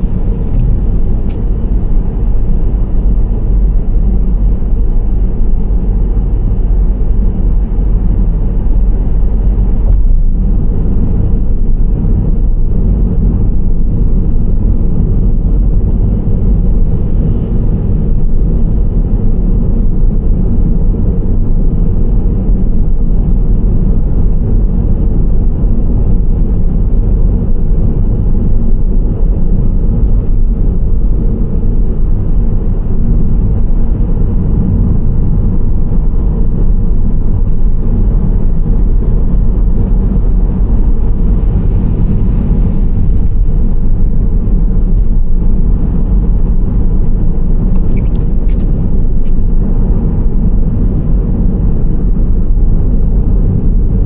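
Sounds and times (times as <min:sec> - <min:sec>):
minivan driving rumble: 0:00.0 - 0:54.0.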